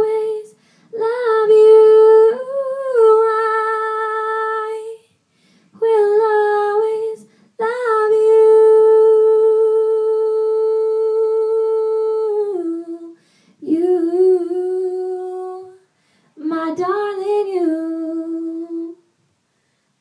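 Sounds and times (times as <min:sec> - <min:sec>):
woman singing a cappella: 0:00.0 - 0:05.2, 0:05.8 - 0:19.1.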